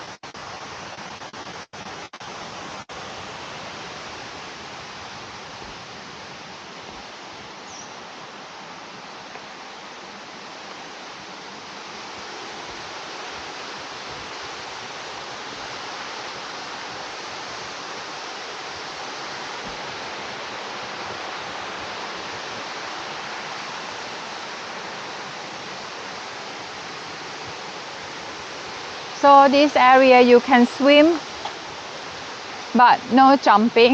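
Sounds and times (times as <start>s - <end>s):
waterfall rushing into a pool: 0.0s - 33.9s.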